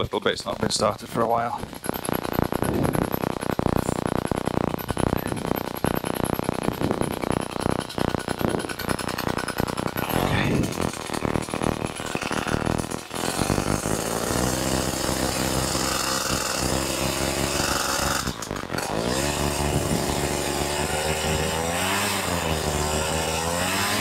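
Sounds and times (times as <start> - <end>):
paramotor engine running: 0.0 - 24.0.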